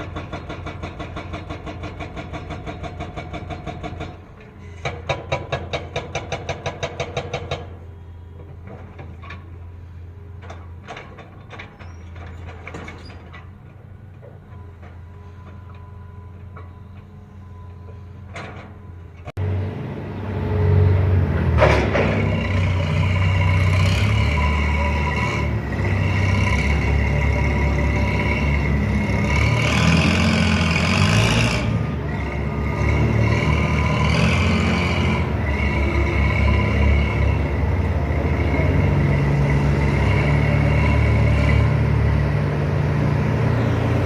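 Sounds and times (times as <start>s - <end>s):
diesel engine rumbling: 0.0s - 44.0s.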